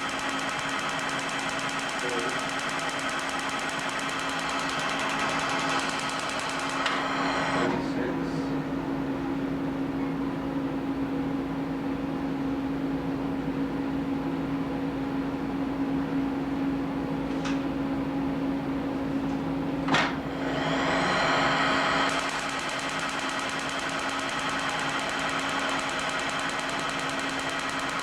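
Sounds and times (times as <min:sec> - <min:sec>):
electrical equipment hum: 0:00.0 - 0:28.0.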